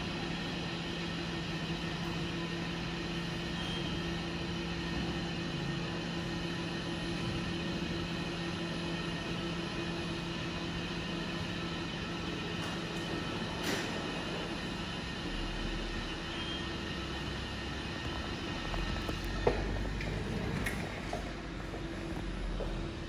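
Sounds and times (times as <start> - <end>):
measuring machine humming: 0.0 - 23.0.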